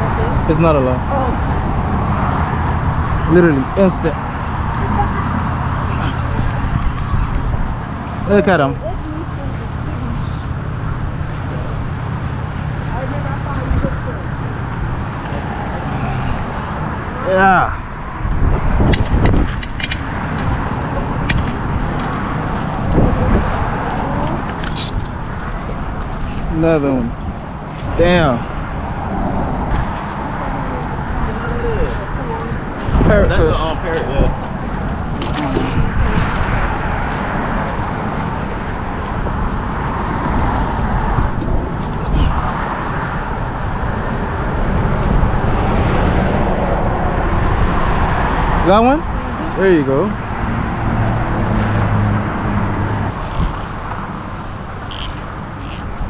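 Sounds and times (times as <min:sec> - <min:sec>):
road traffic rumble: 0:00.0 - 0:56.0
wind on microphone: 0:00.0 - 0:56.0.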